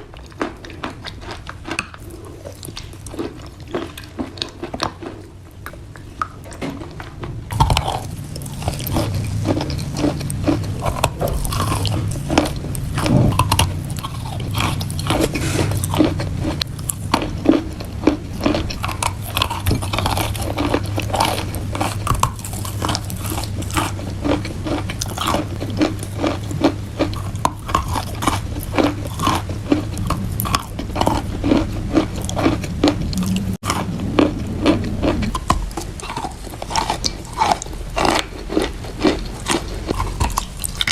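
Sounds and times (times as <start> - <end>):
person chewing chalk: 0.0 - 40.9.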